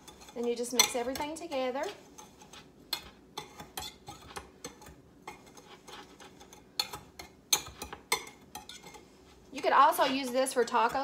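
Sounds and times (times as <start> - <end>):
spoon scraping powder in bowl: 0.0 - 11.0.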